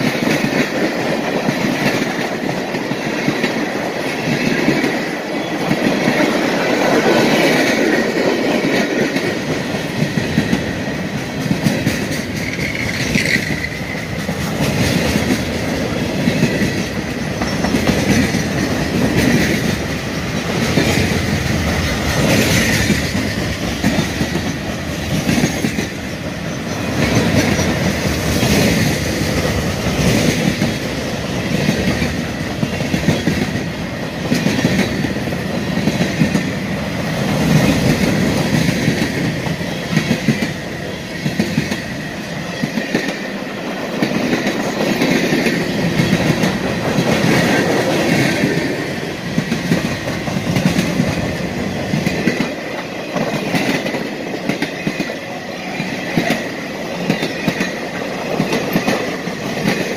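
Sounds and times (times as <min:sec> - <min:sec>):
freight train rumbling past: 0:00.0 - 0:59.9
train wheel clacks: 0:00.0 - 0:59.9.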